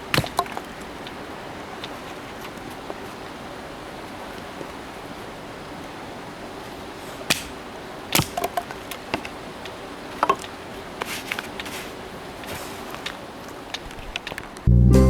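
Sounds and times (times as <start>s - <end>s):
steady hiss: 0.0s - 14.7s.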